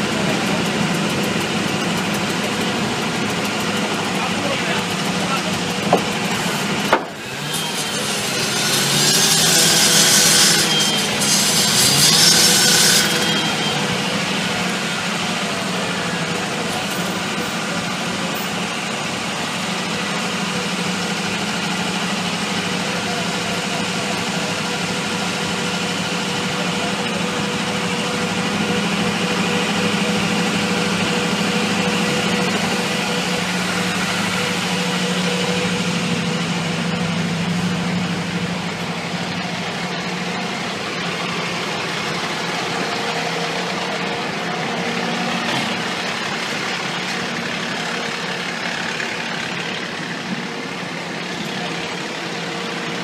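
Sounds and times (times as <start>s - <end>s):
diesel engine idling: 0.0s - 53.0s.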